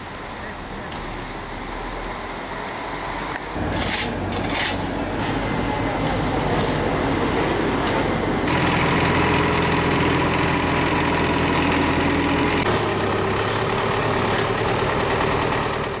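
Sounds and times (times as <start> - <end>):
heavy machinery engine idling: 0.0 - 16.0.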